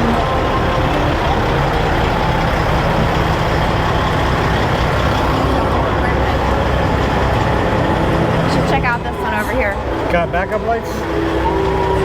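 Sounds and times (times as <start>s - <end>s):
diesel truck engine running: 0.0s - 12.0s
outdoor noise: 0.0s - 12.0s.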